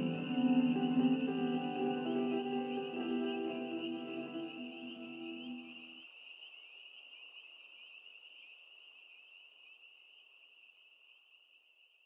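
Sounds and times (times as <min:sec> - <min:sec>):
insects chirring: 0:00.0 - 0:11.8.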